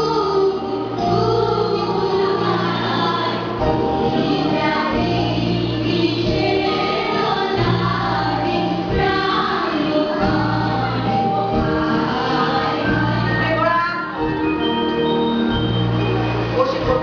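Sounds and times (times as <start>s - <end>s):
song with sung vocals: 0.0s - 17.0s.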